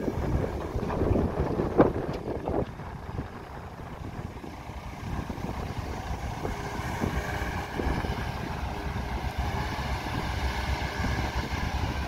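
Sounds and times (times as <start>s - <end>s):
diesel engine running: 0.0s - 12.0s
wind buffeting microphone: 0.0s - 12.0s.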